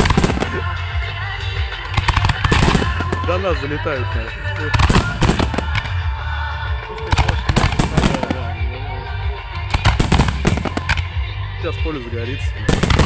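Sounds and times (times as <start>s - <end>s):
fireworks bangs and crackles: 0.0s - 8.7s, 9.5s - 11.2s, 12.6s - 13.0s.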